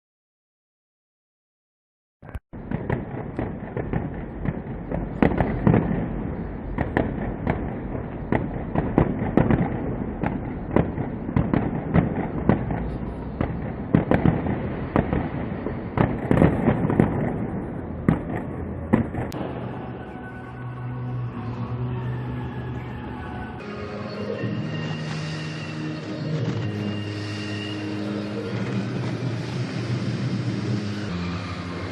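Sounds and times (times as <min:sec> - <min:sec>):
fireworks bangs and crackling: 0:02.6 - 0:31.9.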